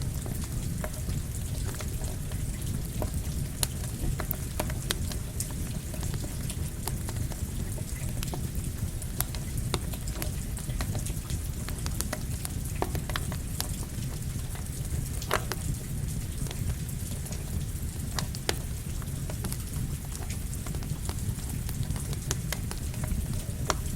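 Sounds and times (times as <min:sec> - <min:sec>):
campfire crackling and popping: 0:00.0 - 0:23.9
rain: 0:00.0 - 0:23.9.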